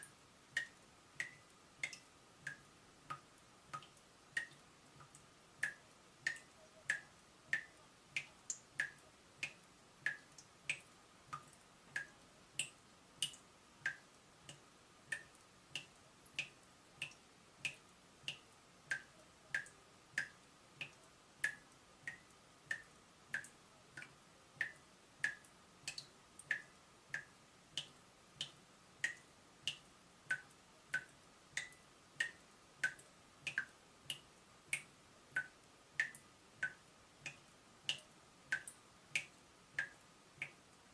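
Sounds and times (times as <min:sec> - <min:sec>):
water dripping from a tap: 0:00.0 - 0:40.8.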